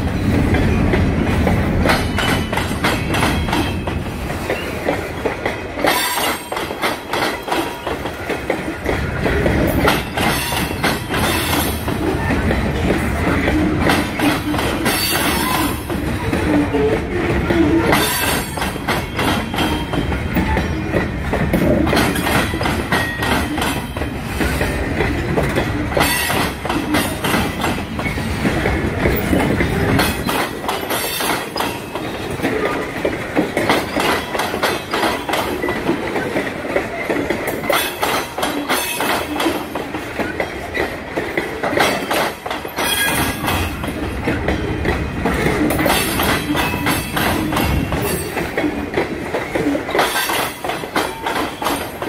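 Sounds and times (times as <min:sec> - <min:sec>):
deep train rumble: 0:00.0 - 0:52.0
loud train clanks: 0:00.0 - 0:52.0
train wheels clicking over rail joints: 0:00.0 - 0:52.0.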